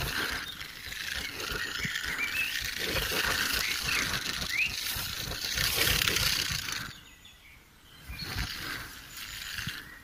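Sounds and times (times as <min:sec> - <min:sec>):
porcupine quills rattling: 0:00.0 - 0:07.0, 0:08.1 - 0:10.0.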